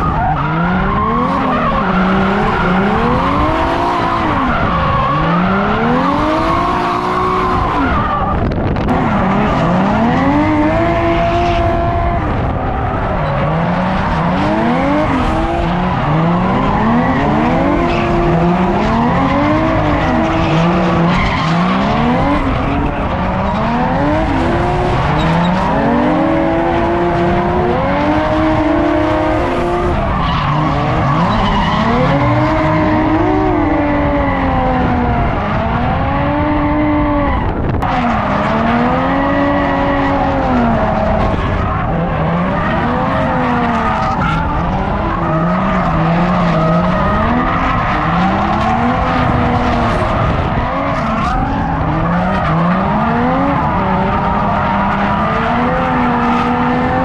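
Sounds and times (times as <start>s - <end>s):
tire squeal: 0.0s - 35.5s, 36.1s - 57.0s
car engines revving: 0.0s - 57.0s.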